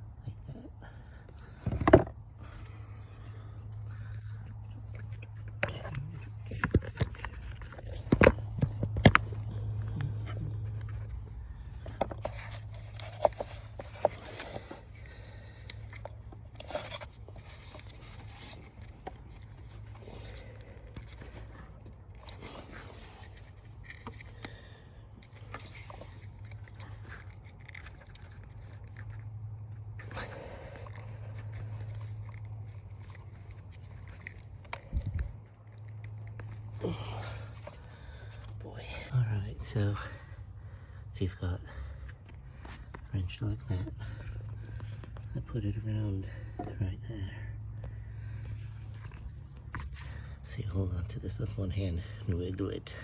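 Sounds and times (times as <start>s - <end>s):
steady low hum: 0.0s - 53.0s
clicks and scrapes of plastic and metal: 1.3s - 40.4s, 41.9s - 45.8s, 47.8s - 50.6s.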